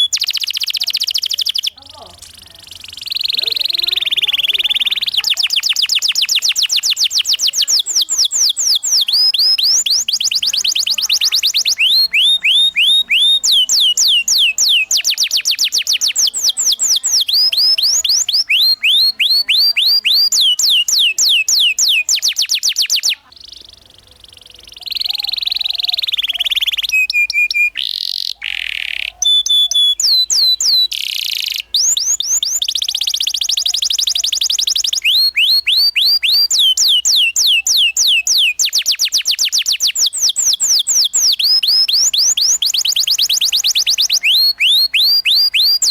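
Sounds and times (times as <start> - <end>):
canary chattering buzzy phrases: 0.0 - 45.9
canary singing rolls: 0.0 - 45.9.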